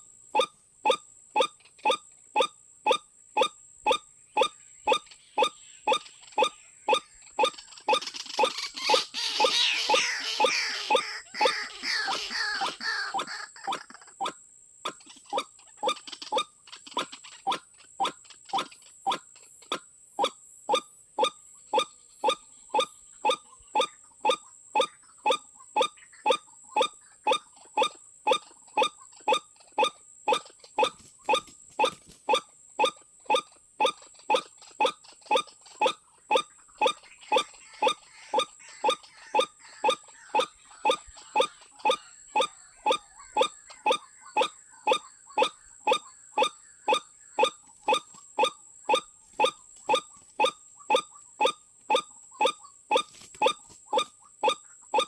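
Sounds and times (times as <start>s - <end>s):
waterhen croaking calls: 0.0s - 19.2s, 20.2s - 55.0s.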